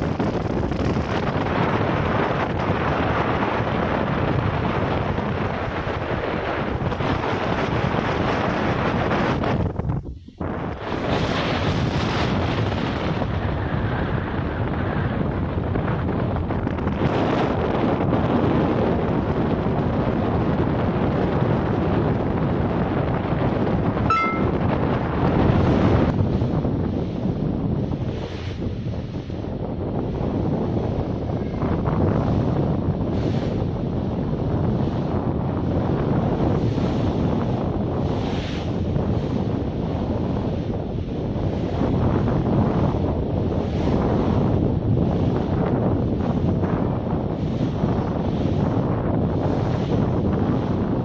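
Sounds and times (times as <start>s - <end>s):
ship engine low rumble: 0.0s - 51.0s
water wake rushing along hull: 0.0s - 51.0s
wind buffeting microphone: 0.0s - 51.0s.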